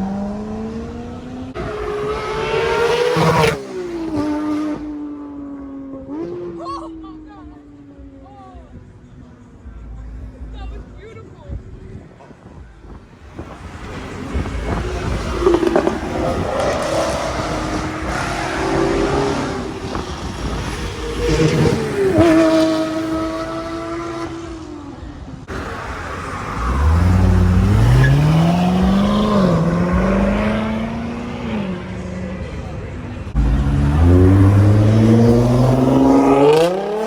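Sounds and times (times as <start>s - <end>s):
car engines revving past: 0.0s - 6.6s, 12.9s - 37.0s.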